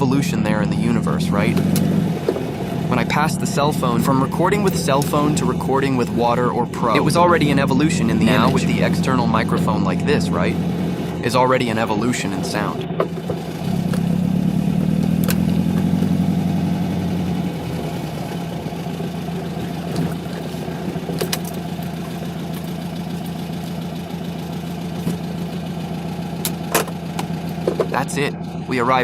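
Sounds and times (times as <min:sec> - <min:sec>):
car engine hum inside cabin: 0:00.0 - 0:29.0.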